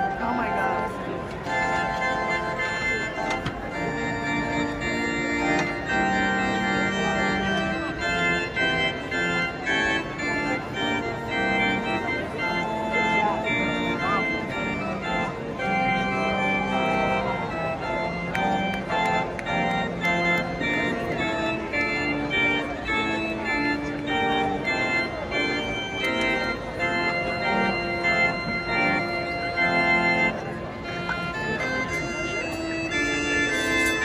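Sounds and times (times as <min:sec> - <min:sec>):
faint crowd voices: 0:00.0 - 0:34.0
organ chords: 0:00.0 - 0:34.0.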